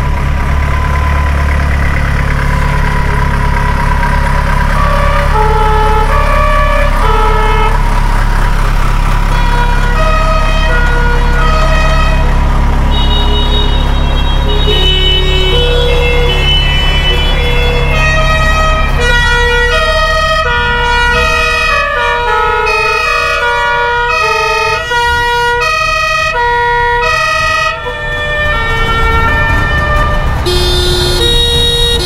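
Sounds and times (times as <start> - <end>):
low engine rumble: 0.0 - 32.0
two-tone emergency sirens: 0.0 - 32.0.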